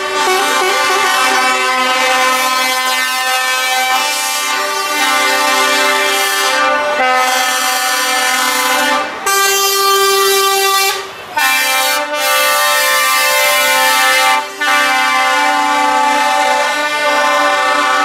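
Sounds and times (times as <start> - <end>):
truck air horn blasts: 0.0 - 18.0.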